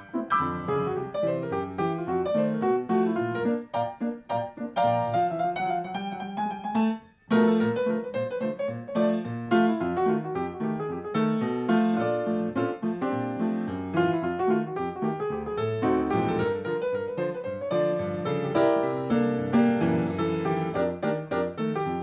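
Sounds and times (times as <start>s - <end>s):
light piano tune: 0.0s - 22.0s.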